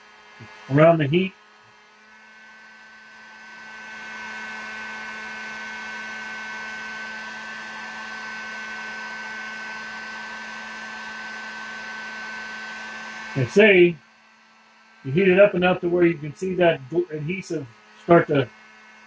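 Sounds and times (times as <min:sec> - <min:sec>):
heat gun blowing: 0:00.0 - 0:19.0.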